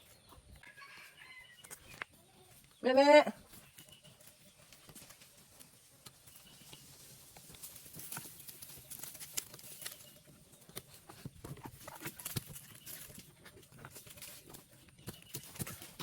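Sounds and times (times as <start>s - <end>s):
hooves tapping on hard ground: 0.0s - 16.0s.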